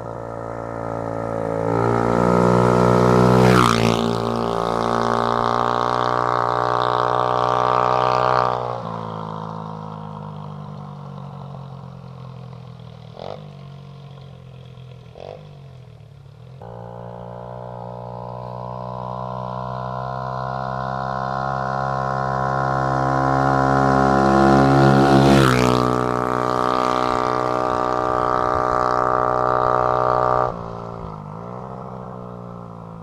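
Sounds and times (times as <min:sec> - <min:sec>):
motorcycle engine passing by: 0:00.0 - 0:33.0.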